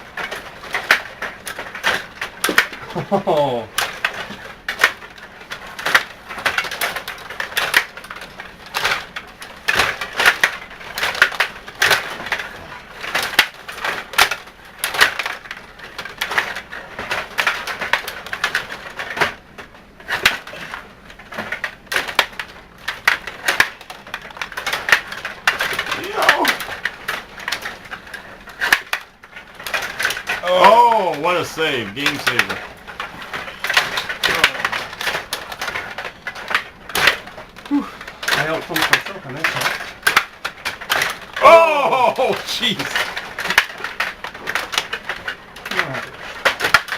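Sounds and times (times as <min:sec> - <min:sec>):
plastic game pieces clattering: 0:00.0 - 0:46.9.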